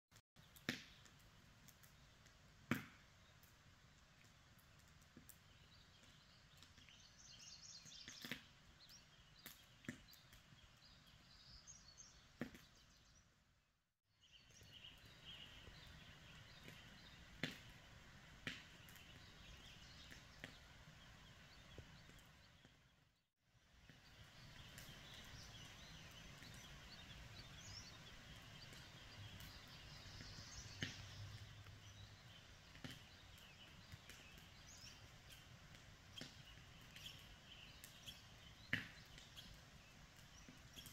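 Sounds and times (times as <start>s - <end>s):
distant birds chirping: 2.9s - 40.9s.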